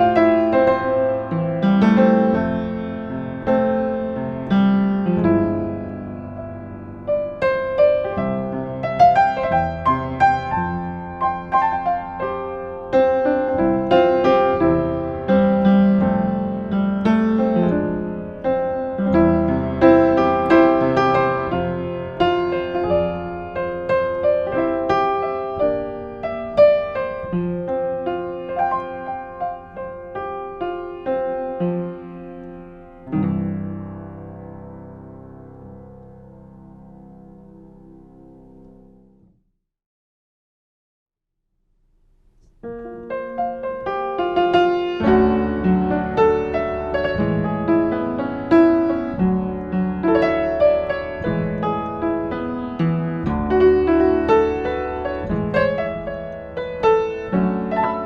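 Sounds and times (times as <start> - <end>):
upright piano playing: 0.0 - 39.3, 42.4 - 58.0.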